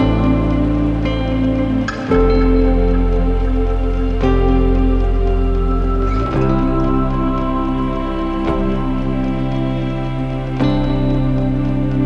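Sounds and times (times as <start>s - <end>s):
background music chords and bass: 0.0s - 12.0s.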